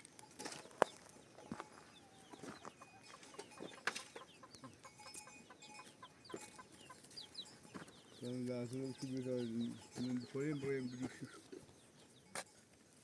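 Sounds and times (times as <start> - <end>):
chickens clucking: 0.5 - 12.5.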